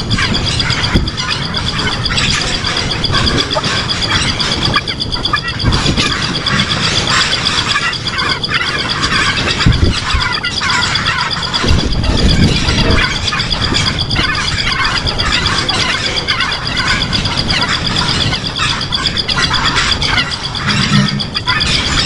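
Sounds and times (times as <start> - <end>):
birds chirping: 0.0 - 22.0
fast-pulsing high trill: 0.0 - 22.0
low rumbling noise: 0.0 - 22.0.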